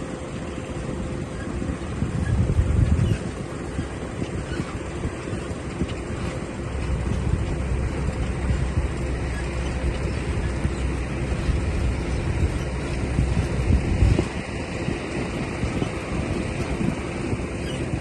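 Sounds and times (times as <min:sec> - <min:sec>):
heavy machine engine running: 0:00.0 - 0:18.0.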